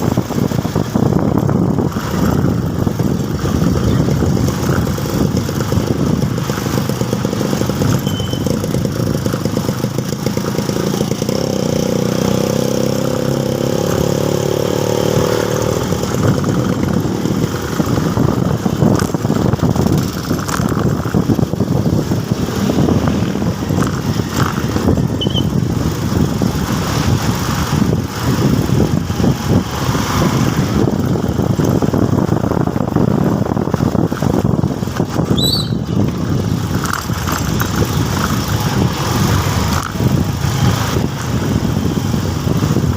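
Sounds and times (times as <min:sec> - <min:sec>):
motorcycle engine running: 0:00.0 - 0:42.9
road noise: 0:00.0 - 0:42.9.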